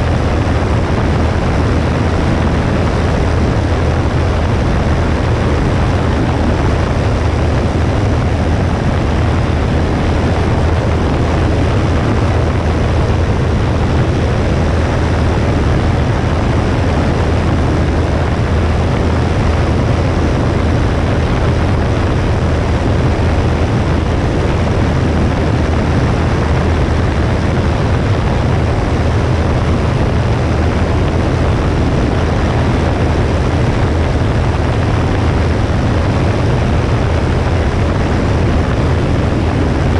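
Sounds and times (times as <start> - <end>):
airplane engine droning: 0.0 - 39.9
rush of air: 0.0 - 39.9.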